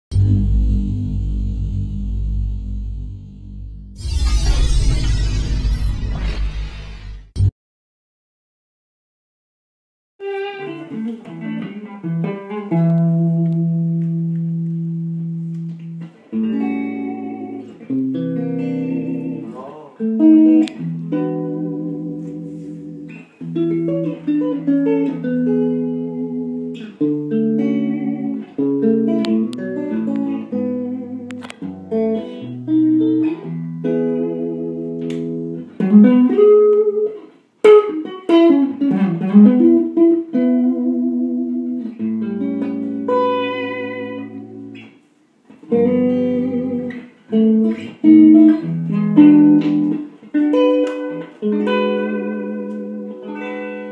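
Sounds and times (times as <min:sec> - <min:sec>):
electric guitar playing: 0:00.1 - 0:06.5, 0:10.2 - 0:53.9.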